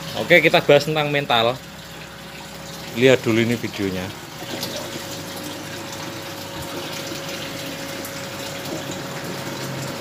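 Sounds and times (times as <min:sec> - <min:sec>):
faint pump hum: 0:00.0 - 0:10.0.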